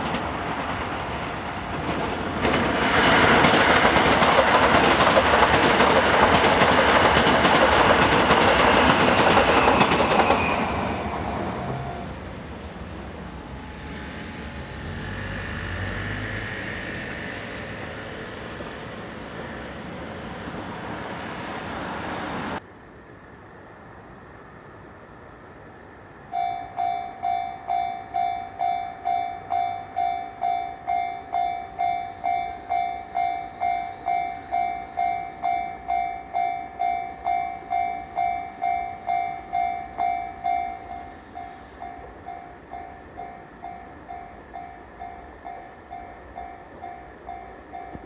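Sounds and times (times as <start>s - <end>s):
train wheels rumbling on rails: 0.0s - 22.6s, 26.3s - 48.0s.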